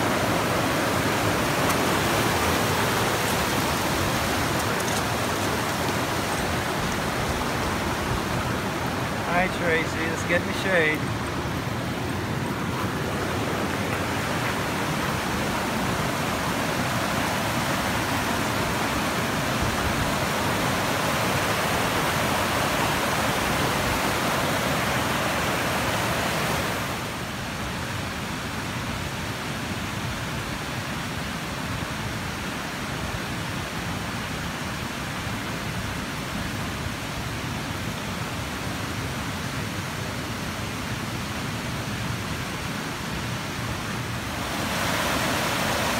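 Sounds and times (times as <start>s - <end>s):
creek water rushing over rocks: 0.0s - 45.9s.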